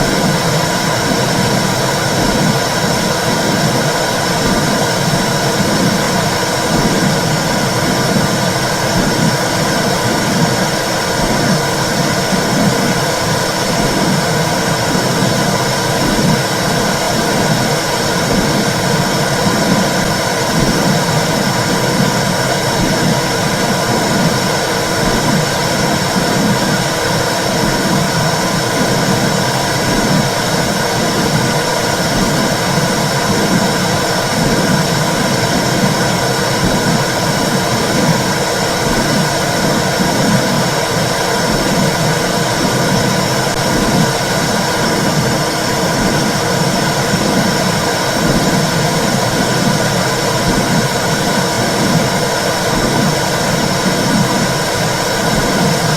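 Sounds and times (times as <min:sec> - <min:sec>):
low heartbeat pulsing: 0:00.0 - 0:40.7, 0:41.4 - 0:54.6.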